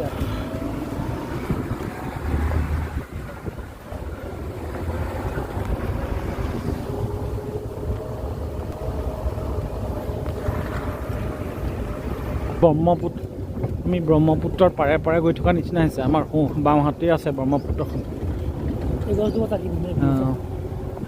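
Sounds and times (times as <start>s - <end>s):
vehicle engine rumble: 0.0s - 21.0s
wind buffeting microphone: 0.0s - 21.0s.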